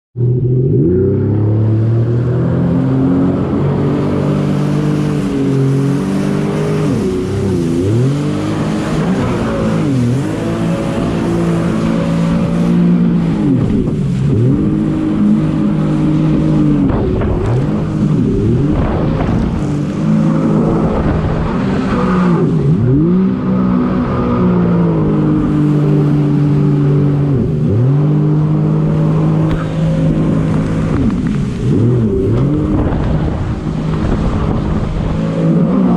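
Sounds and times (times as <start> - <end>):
jet ski engine revving: 0.2 - 35.9.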